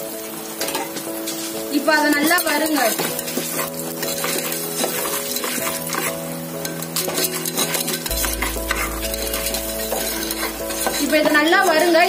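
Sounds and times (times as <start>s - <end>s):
background music: 0.0s - 12.0s
kernels sizzling in hot oil: 0.0s - 12.0s
metal spoon scraping pot: 2.2s - 12.0s.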